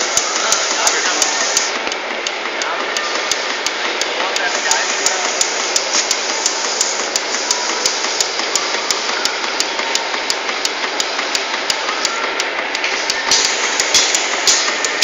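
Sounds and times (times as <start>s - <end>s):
machine whirring: 0.0s - 15.0s.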